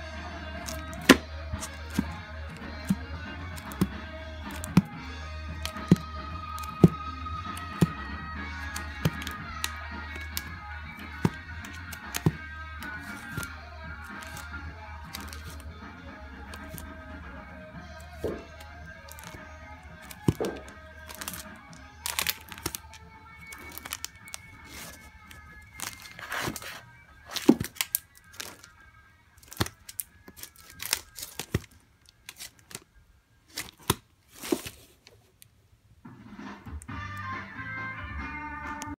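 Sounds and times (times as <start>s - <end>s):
faint background music: 0.0s - 38.9s
record sleeves clacking: 0.6s - 28.7s, 29.4s - 32.9s, 33.5s - 35.5s.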